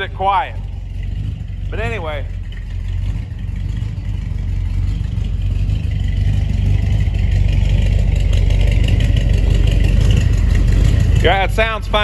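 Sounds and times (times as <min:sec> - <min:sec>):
throaty engine idling: 0:00.0 - 0:12.0.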